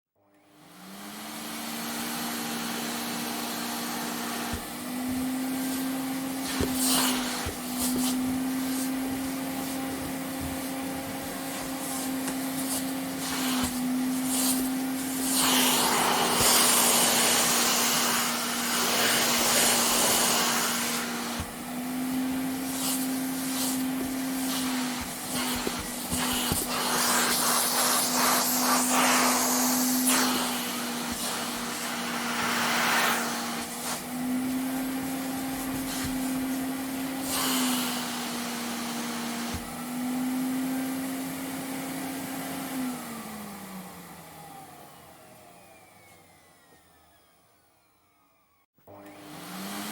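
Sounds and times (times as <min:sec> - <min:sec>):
vacuum cleaner motor whining: 0:00.2 - 0:49.9.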